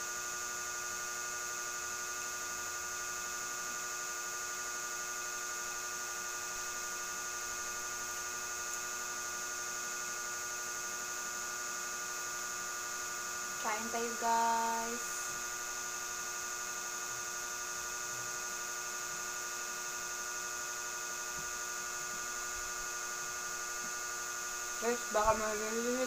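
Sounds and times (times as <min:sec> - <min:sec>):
electric fan humming: 0:00.0 - 0:26.0.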